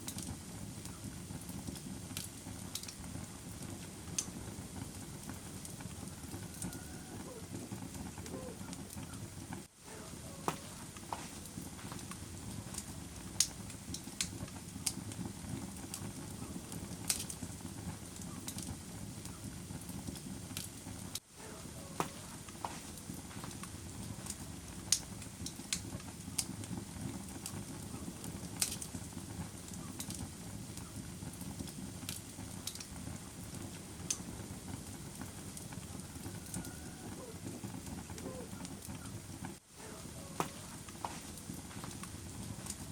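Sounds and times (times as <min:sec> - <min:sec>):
fire crackling and popping: 0:00.0 - 0:42.9
fire flames rushing: 0:00.0 - 0:42.9.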